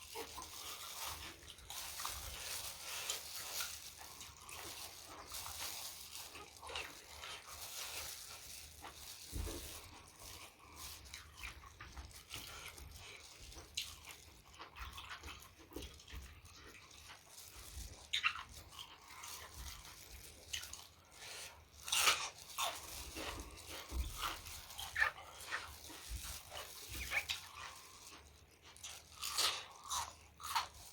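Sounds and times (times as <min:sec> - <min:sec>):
wet chewing and crunching: 0:00.0 - 0:30.9.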